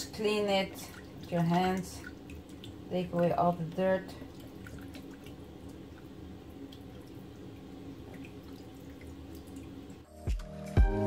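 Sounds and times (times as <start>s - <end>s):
water splashing and dripping: 0.0s - 10.1s.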